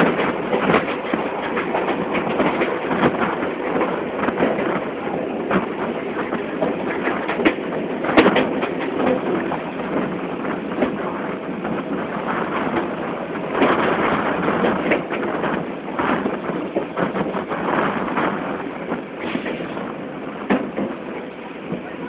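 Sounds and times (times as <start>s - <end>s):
rattling clicks and knocks from wheels: 0.0s - 19.8s.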